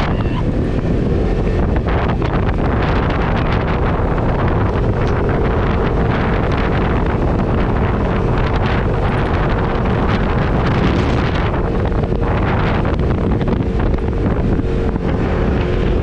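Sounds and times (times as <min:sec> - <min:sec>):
off-road vehicle engine running: 0:00.0 - 0:16.0
wind buffeting microphone: 0:00.0 - 0:16.0.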